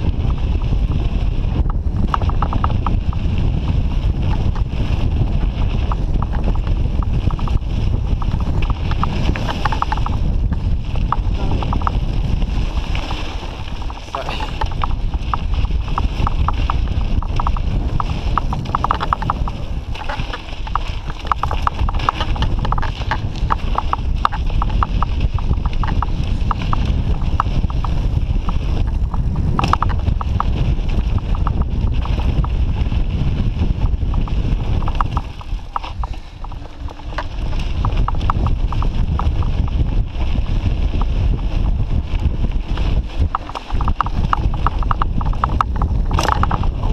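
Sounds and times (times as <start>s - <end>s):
bike clicks and rattles: 0.0s - 46.9s
wind and tyre rumble: 0.0s - 46.9s.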